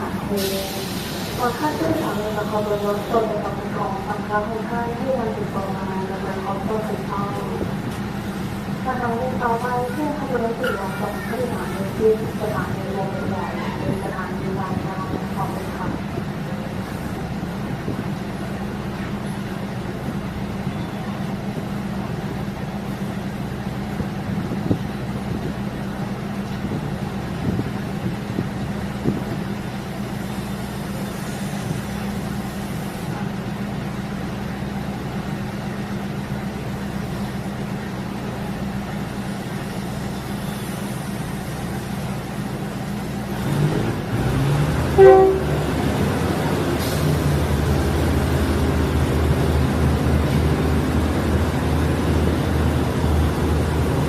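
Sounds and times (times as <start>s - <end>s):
railcar engine drone: 0.0s - 54.0s.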